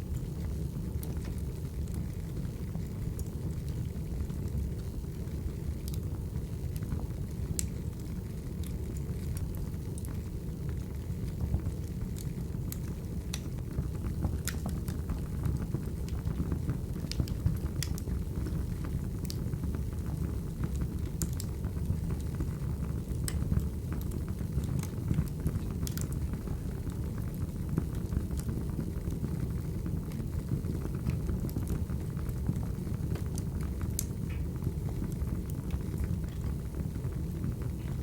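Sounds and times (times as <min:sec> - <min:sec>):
fire crackles and pops: 0:00.0 - 0:38.0
wood fire rumbling: 0:00.0 - 0:38.0.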